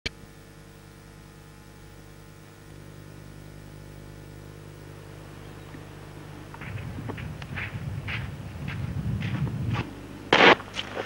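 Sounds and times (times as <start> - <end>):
electrical mains hum: 0.1 - 11.0
tape hiss: 0.1 - 11.0.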